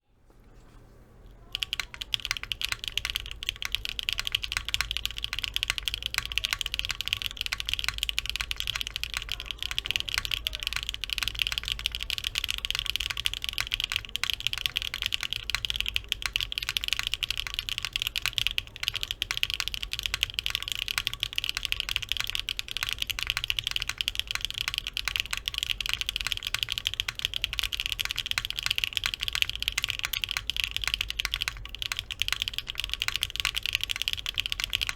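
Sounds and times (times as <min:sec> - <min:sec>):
fast typing on mechanical keyboard: 0:01.4 - 0:34.9.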